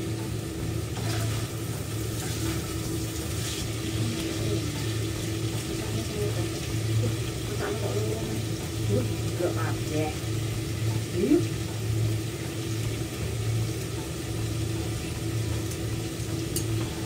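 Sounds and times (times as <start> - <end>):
food sizzling in a wok: 0.0 - 17.0
low hum: 0.0 - 17.0.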